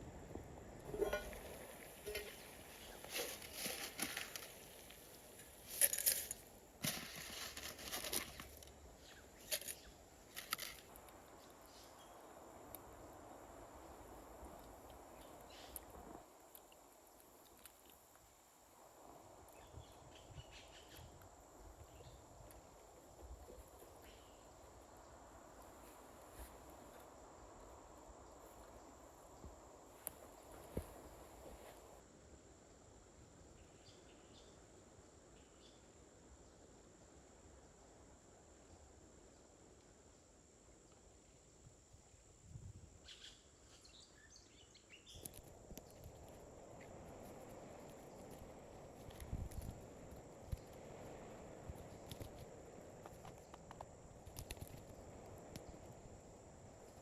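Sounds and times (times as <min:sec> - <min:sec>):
faint outdoor background noise: 0:00.0 - 0:57.0.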